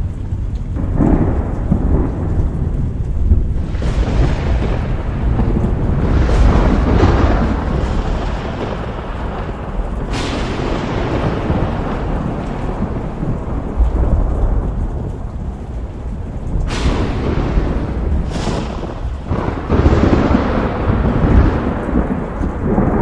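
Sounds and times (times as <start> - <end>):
steady rain: 0.0 - 23.0
sudden thunderclaps: 0.0 - 23.0
thunder rumbling: 0.0 - 23.0.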